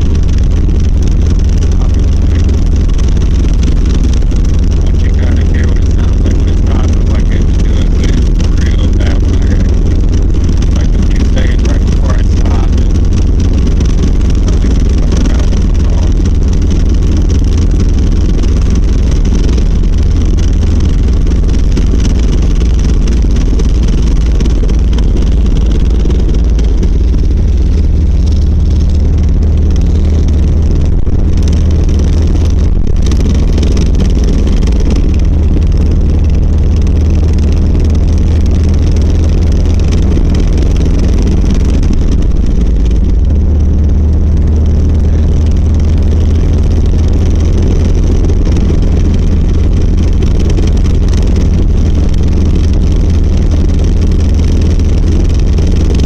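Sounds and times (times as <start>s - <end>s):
car engine low rumble: 0.0s - 56.0s
driveshaft rattling vibration: 0.0s - 56.0s.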